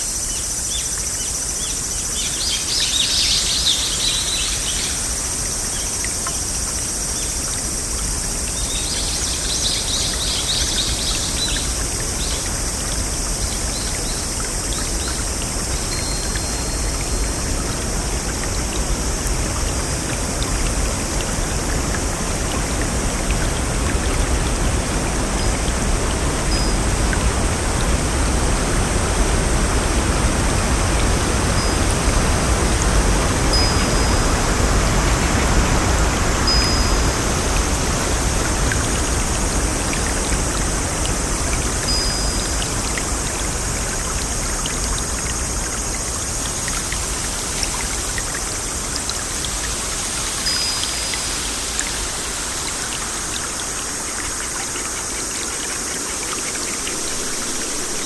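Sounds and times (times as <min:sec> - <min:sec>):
rushing flowing water: 0:00.0 - 0:58.0.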